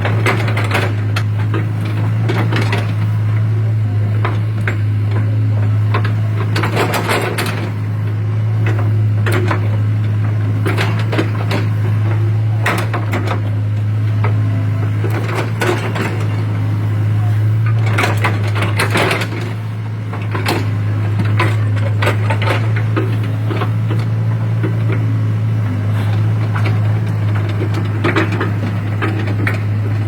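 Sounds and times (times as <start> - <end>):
diesel engine humming: 0.0 - 30.0
excavator bucket knocking and clanking: 0.0 - 30.0.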